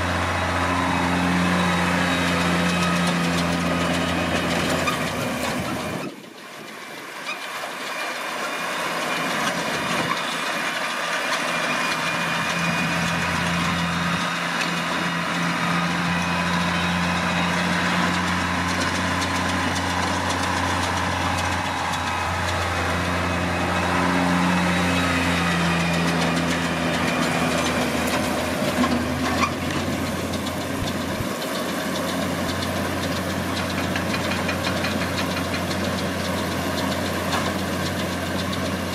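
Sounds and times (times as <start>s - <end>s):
round baler picking up hay: 0.0s - 38.9s
tractor diesel engine running: 0.0s - 38.9s.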